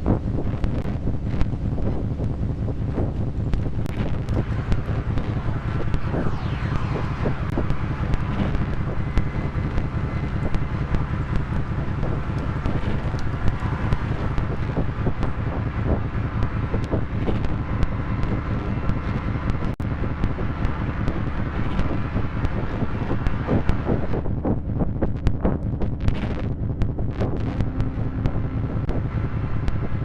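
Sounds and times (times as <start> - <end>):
low synthesizer drone: 0.0 - 30.0
noise haze: 0.0 - 30.0
crackling clicks: 0.5 - 29.9.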